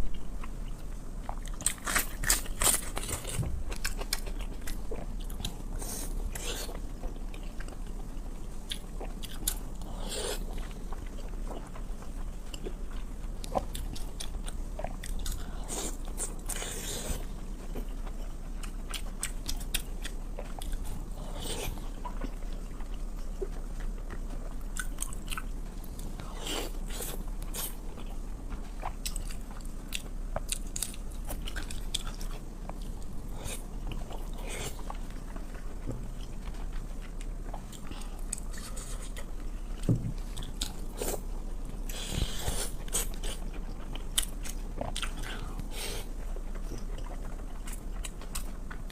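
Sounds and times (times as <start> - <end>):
person chewing and biting: 1.3 - 7.8, 12.5 - 48.9.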